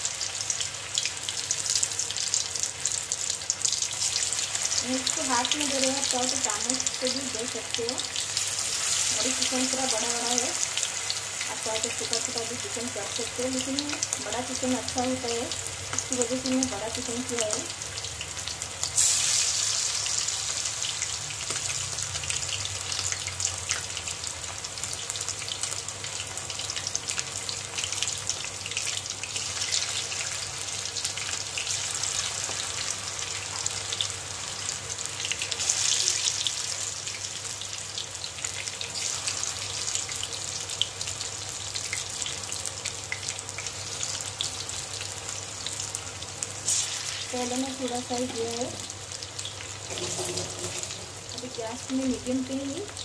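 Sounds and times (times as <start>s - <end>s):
chicken deep-frying in oil: 0.0s - 53.0s.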